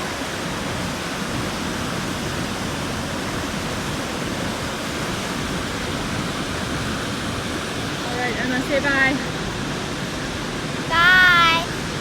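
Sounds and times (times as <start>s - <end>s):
waterfall crashing: 0.0s - 12.0s.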